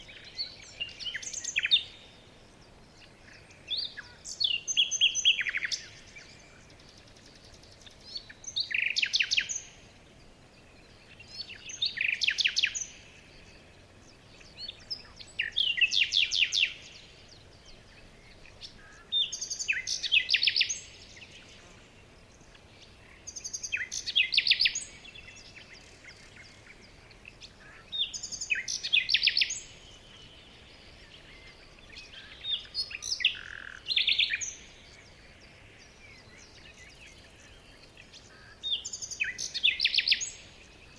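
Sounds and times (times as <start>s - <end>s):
faint outdoor background: 0.0s - 40.9s
songbird singing: 0.0s - 40.9s.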